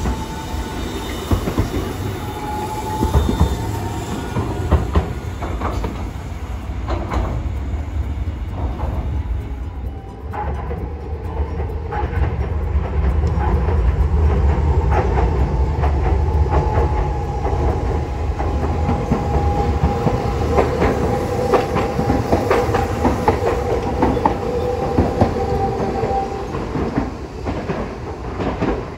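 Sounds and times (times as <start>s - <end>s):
tram rumble: 0.0s - 28.9s
tram whine: 0.0s - 28.9s
wheels clicking over rail joints: 0.0s - 28.9s.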